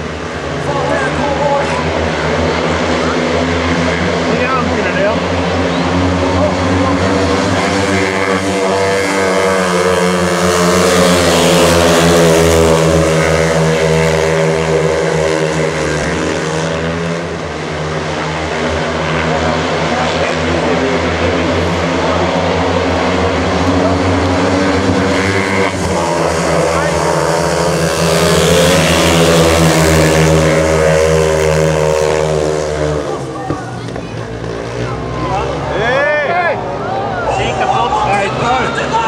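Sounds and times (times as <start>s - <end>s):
racing motorcycle engines: 0.0s - 39.0s.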